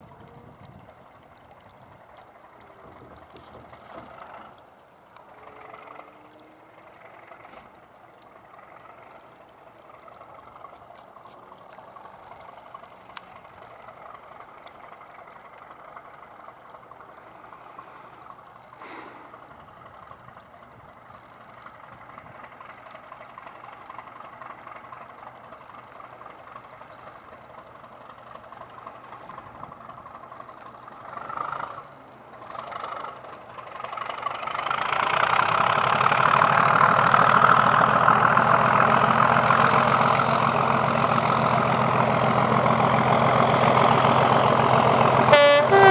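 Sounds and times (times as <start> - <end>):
diesel locomotive rumble: 0.0 - 45.9.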